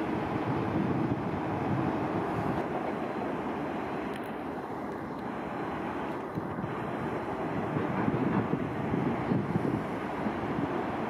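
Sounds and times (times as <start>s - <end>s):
distant jet engines: 0.0s - 11.0s.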